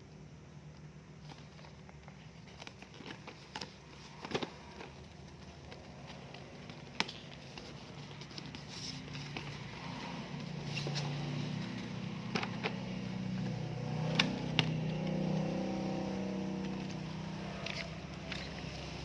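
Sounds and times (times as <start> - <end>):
packaging rustling: 1.2 - 19.0.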